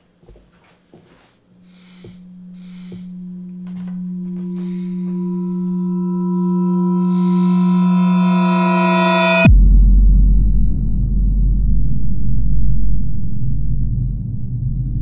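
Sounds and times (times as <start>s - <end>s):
low horror drone: 1.5s - 15.0s.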